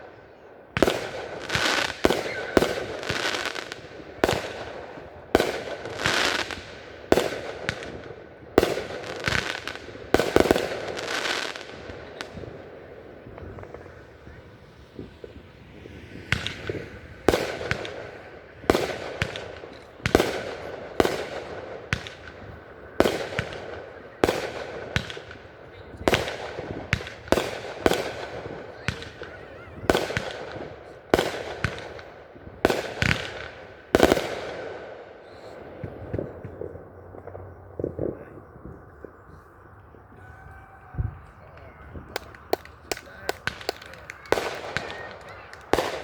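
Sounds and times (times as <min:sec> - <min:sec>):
fireworks bangs: 0:00.0 - 0:46.0
small firework pops: 0:00.8 - 0:46.0.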